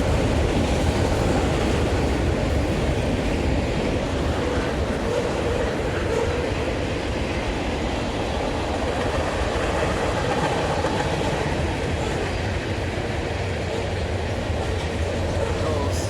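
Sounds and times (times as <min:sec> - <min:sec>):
freight train cars rolling: 0:00.0 - 0:16.0.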